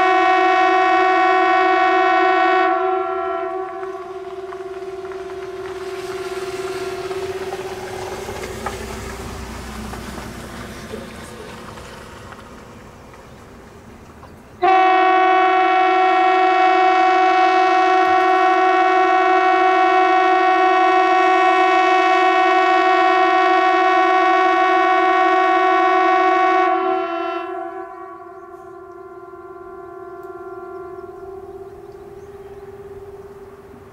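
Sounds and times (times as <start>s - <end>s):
civil defense siren steady tone: 0.0s - 9.6s, 14.6s - 33.9s.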